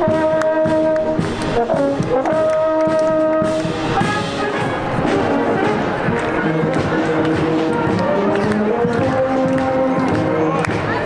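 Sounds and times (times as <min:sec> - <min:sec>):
drum beats: 0:00.0 - 0:11.0
marching brass band: 0:00.0 - 0:11.0.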